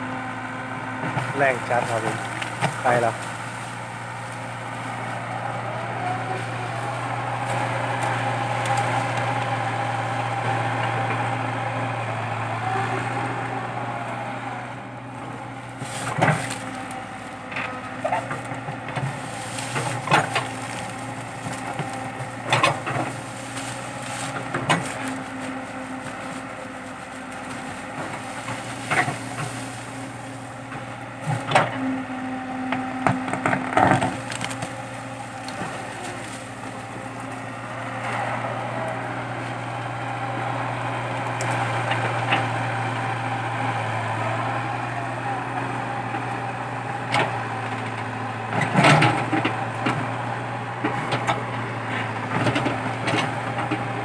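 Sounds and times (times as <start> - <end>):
wood and roots cracking: 0.0 - 12.9, 15.4 - 54.0
excavator diesel engine running: 0.0 - 54.0.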